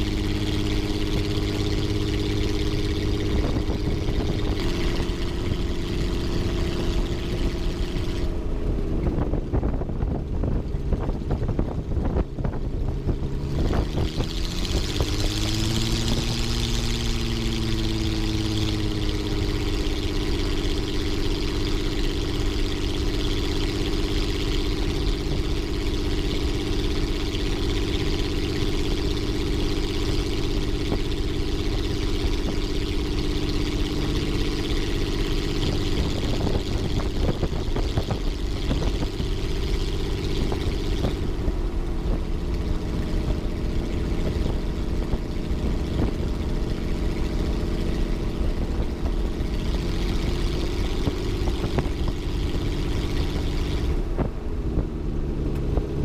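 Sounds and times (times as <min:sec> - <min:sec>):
aircraft engine running: 0:00.0 - 0:56.0.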